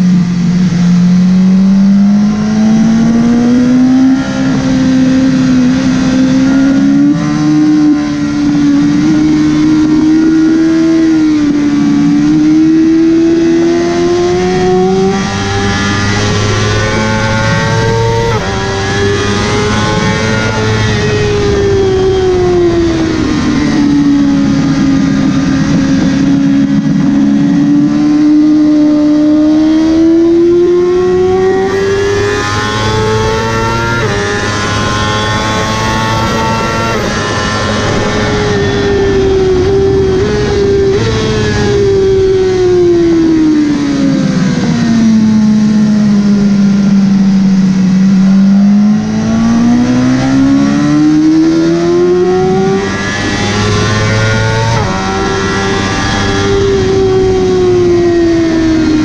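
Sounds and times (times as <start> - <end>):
motorcycle engine running hard: 0.0 - 59.0
wind noise: 0.0 - 59.0.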